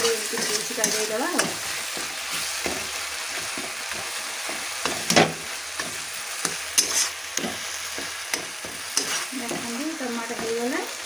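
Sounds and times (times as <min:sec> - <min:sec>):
metal spatula scraping pan: 0:00.0 - 0:10.7
tomato masala sizzling: 0:00.0 - 0:11.0.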